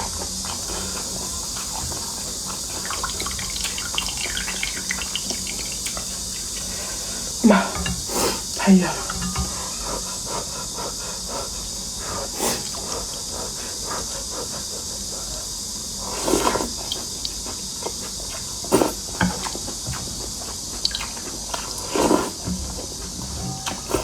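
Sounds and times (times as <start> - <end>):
chewing and slurping noodles: 0.2 - 7.4, 9.3 - 24.0
insects chirring: 0.3 - 24.0.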